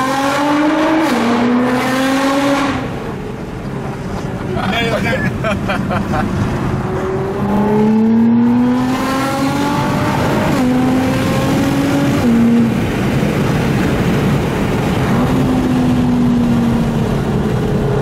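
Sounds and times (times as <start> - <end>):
car engine accelerating: 0.0 - 18.0
road noise: 0.0 - 18.0.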